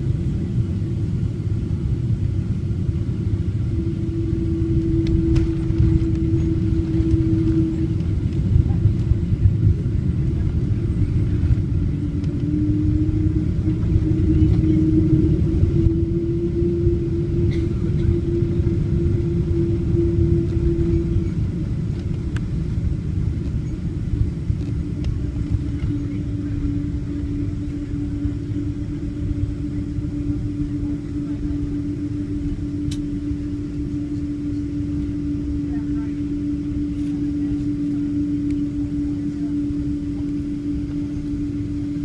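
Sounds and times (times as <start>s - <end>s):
airplane wheels and engines rumbling: 0.0s - 42.0s
steady cabin hum: 0.0s - 42.0s.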